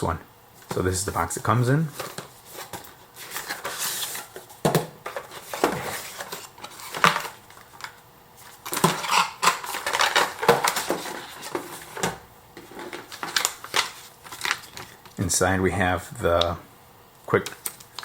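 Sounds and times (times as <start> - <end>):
packaging rustling and scraping: 0.6 - 15.2.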